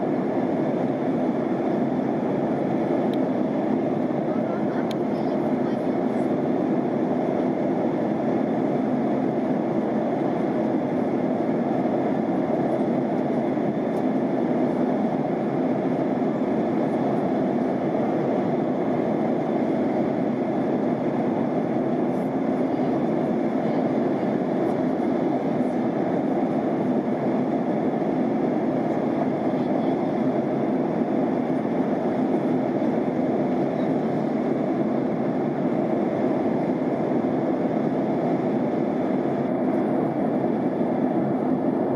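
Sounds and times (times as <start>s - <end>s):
airliner cabin noise: 0.0s - 41.9s.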